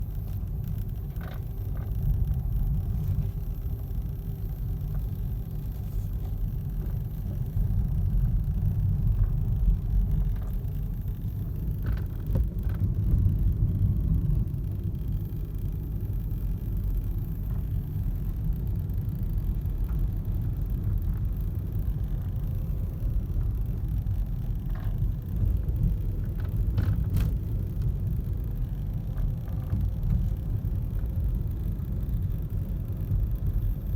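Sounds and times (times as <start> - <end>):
road and engine rumble: 0.0 - 33.9.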